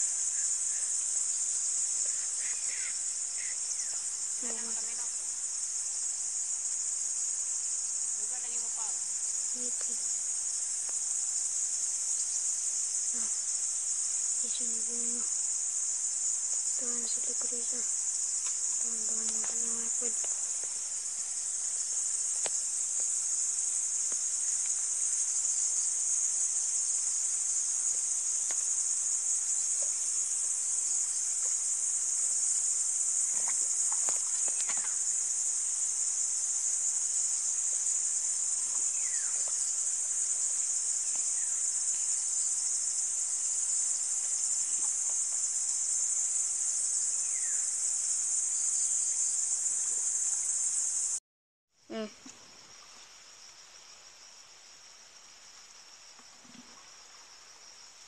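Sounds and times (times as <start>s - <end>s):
insects buzzing: 0.0s - 51.2s, 51.8s - 58.0s.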